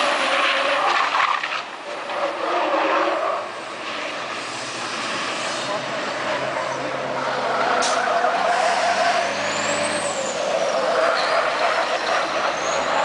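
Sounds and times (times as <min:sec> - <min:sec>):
racing truck engines passing: 0:00.0 - 0:13.0.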